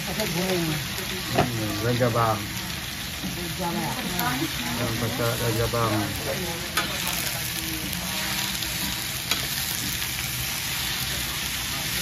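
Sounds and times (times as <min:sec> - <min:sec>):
greens sizzling in a wok: 0:00.0 - 0:12.0.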